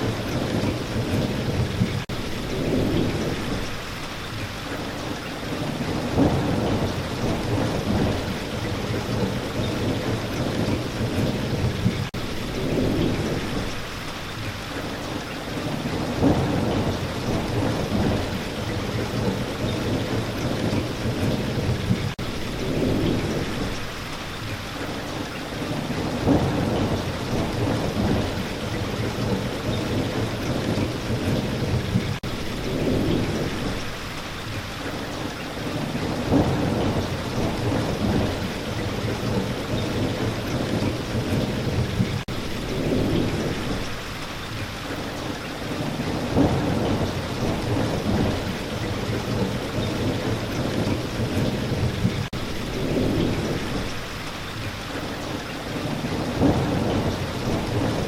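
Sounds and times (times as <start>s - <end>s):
rolling thunder: 0.0s - 3.9s, 4.8s - 24.1s, 25.1s - 58.0s
steady rain: 0.0s - 58.0s.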